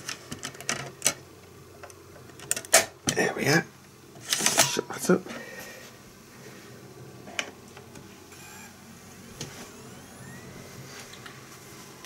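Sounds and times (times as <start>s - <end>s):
dvd drive motor hum and whine: 0.0s - 12.0s.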